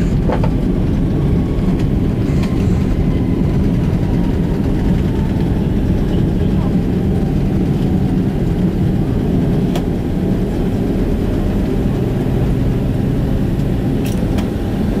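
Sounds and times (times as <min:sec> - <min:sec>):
low rumble of engines and wheels: 0:00.0 - 0:15.0.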